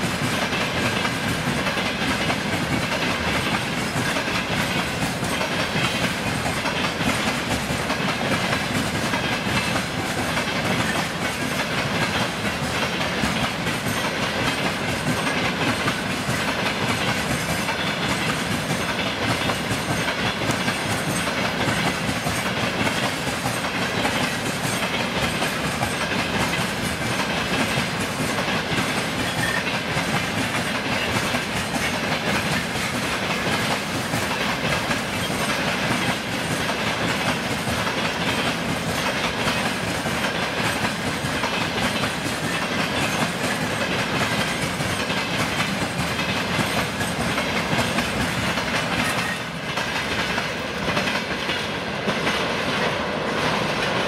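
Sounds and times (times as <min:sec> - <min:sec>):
steel wheels on rails: 0:00.0 - 0:54.0.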